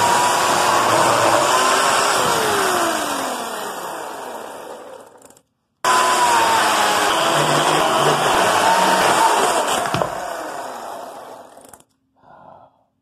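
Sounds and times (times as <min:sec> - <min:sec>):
electric chainsaw cutting log: 0:00.0 - 0:05.3, 0:05.9 - 0:11.8.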